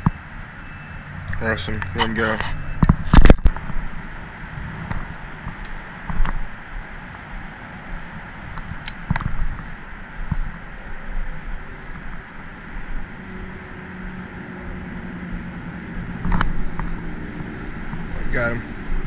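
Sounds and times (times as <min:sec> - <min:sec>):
low steady hum: 0:00.0 - 0:19.0
wind noise on microphone: 0:01.2 - 0:19.0.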